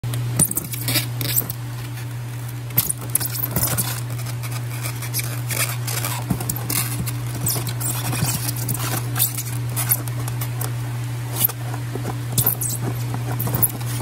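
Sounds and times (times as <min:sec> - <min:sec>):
low machine hum: 0:00.0 - 0:14.0
lobsters clicking and rustling: 0:00.1 - 0:14.0.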